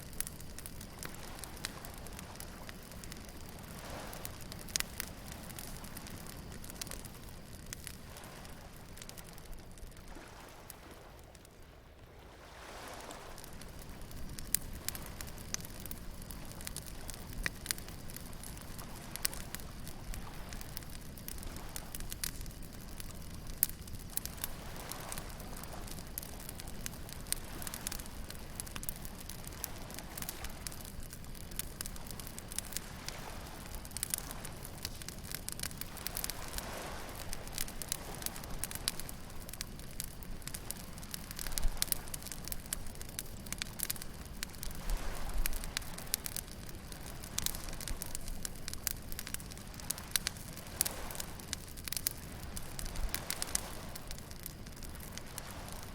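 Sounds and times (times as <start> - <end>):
waves washing: 0.0 - 55.9
wood bonfire crackling: 0.0 - 55.9.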